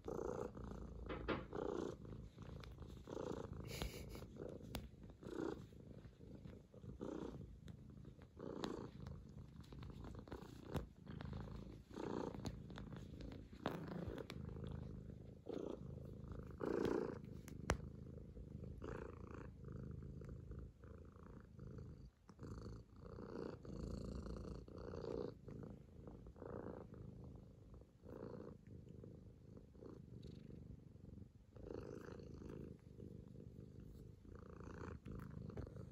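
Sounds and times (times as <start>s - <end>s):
kitten purring: 0.0s - 35.9s.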